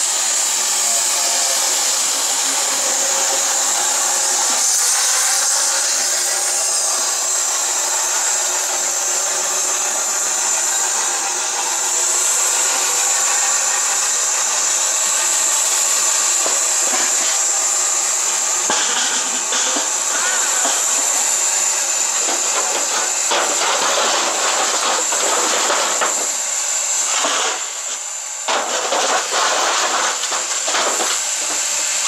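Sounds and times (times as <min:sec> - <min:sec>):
steam locomotive hissing: 0:00.0 - 0:32.0.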